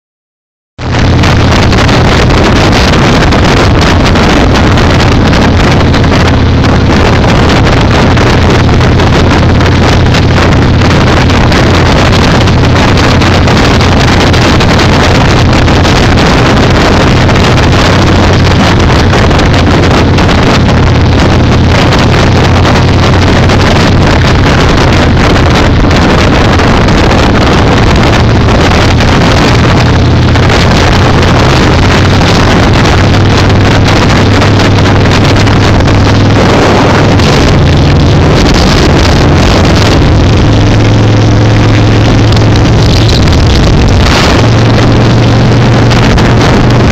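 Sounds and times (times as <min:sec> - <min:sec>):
motorcycle engine running: 0:00.8 - 0:46.9
wind rushing over microphone: 0:00.8 - 0:46.9.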